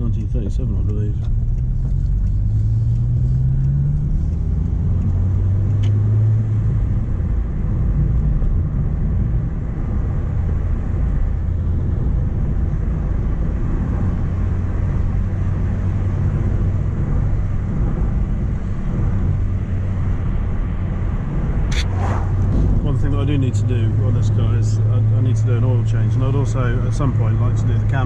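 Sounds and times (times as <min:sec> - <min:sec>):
car engine droning: 0:00.0 - 0:28.0
road noise inside car: 0:00.0 - 0:28.0.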